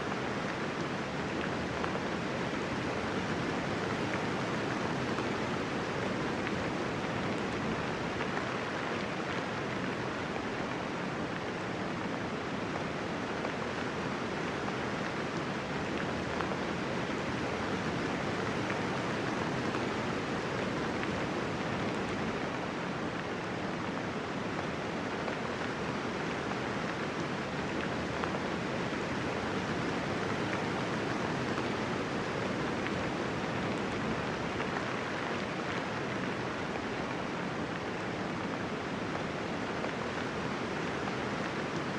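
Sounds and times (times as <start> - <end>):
gentle rain: 0.0 - 41.9.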